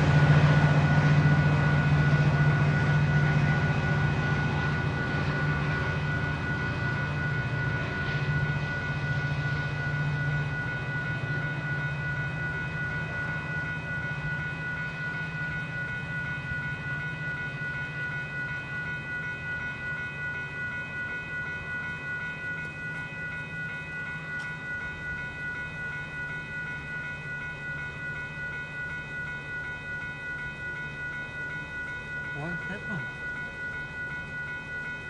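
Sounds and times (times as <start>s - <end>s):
railroad crossing bell ringing: 0.0s - 35.0s.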